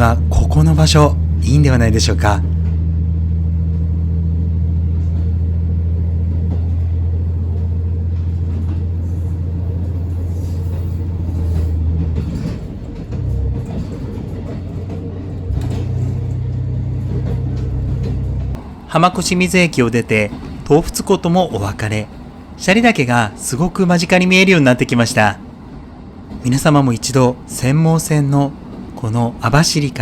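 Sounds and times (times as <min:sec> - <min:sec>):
diesel railcar engine drone: 0:00.0 - 0:30.0.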